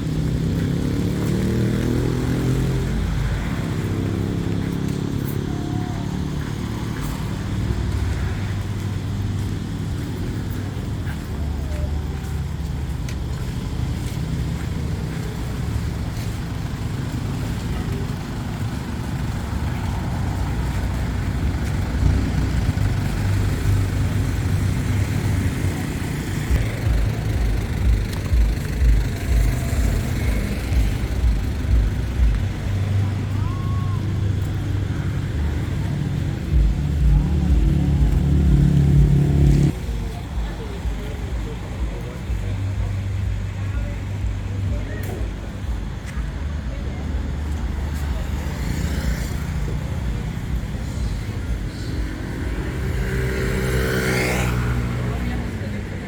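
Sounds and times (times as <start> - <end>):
vehicle engine rumbling: 0.0 - 56.0.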